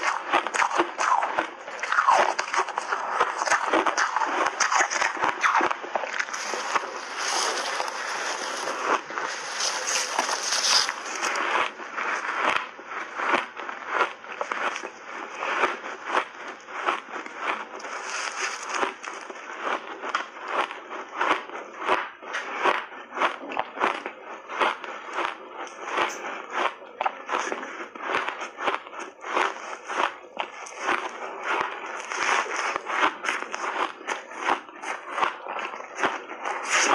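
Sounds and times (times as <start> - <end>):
ice being chewed: 0.0 - 36.9.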